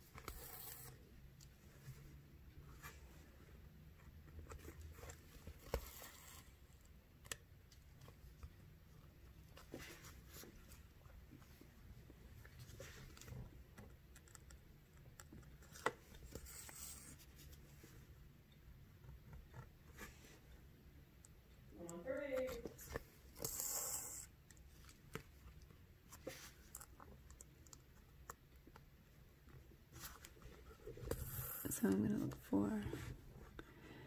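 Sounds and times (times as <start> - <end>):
faint rustling of beadwork: 0.0 - 23.5, 24.1 - 34.0.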